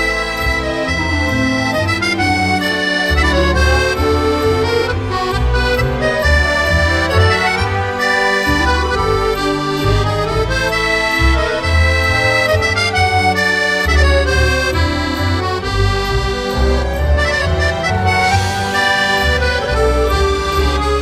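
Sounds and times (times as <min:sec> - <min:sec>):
accordion melody: 0:00.0 - 0:21.0
bass line: 0:00.0 - 0:21.0.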